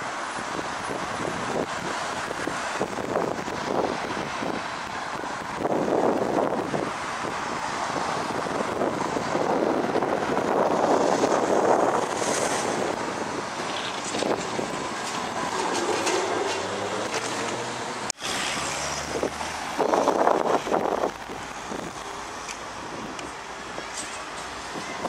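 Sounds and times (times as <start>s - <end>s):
tyre and road noise: 0.0s - 25.0s
vehicles passing: 0.0s - 25.0s
wind on microphone: 0.4s - 17.4s, 19.0s - 25.0s.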